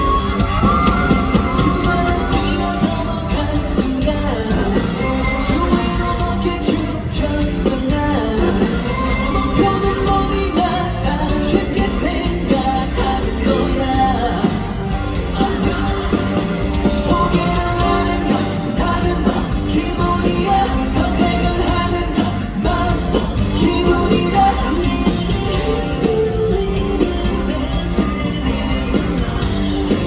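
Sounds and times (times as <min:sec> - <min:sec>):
pop-rock song with male singer: 0:00.0 - 0:30.0.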